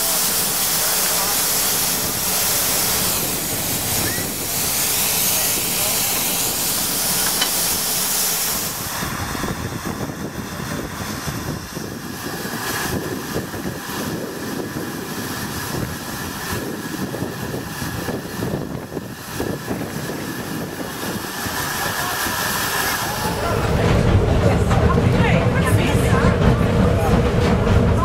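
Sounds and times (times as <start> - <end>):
steam hissing: 0.0 - 23.9
wind on microphone: 1.8 - 7.8, 8.5 - 27.0.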